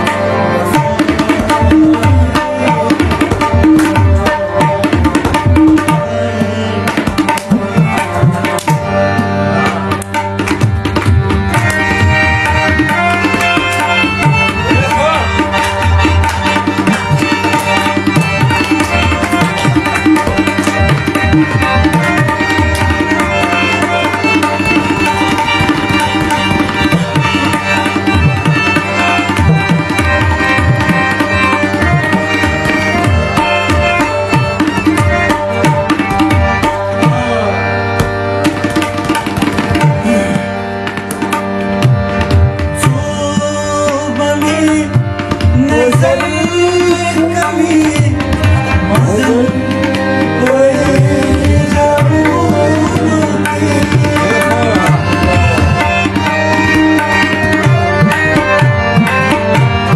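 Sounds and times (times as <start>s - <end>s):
held instrumental notes: 0.0s - 59.9s
tabla played rapidly: 0.0s - 59.9s.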